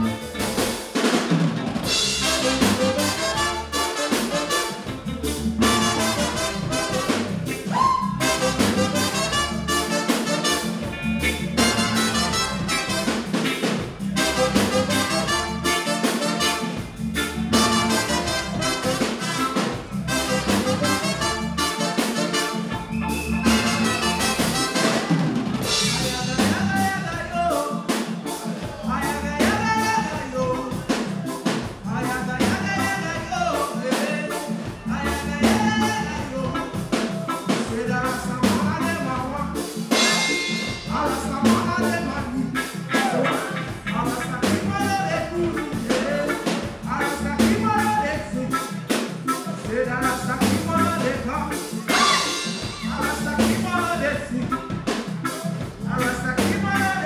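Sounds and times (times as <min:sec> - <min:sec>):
reggae band playing: 0:00.0 - 0:57.0.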